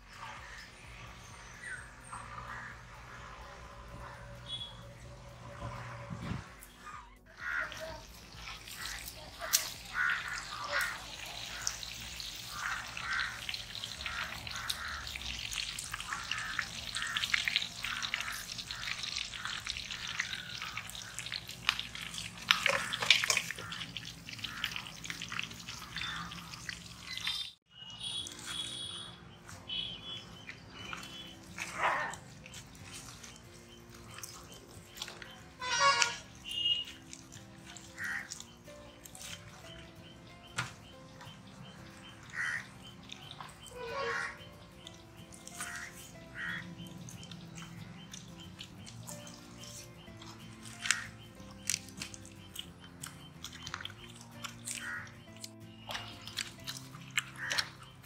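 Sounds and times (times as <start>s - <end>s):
soft background music: 0.0s - 58.0s
chicken deep-frying in oil: 7.3s - 39.8s, 40.5s - 44.4s, 45.3s - 58.0s.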